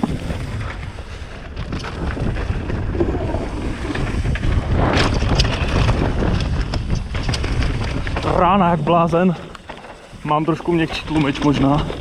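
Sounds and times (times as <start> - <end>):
mountain bike rumbling and rattling: 0.0 - 12.0
wind buffeting microphone: 0.0 - 12.0.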